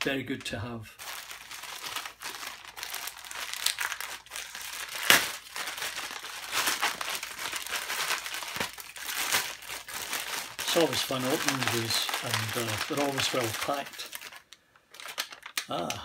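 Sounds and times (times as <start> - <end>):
plastic bag crinkling: 0.4 - 15.9
plastic bag ripping: 1.0 - 15.8.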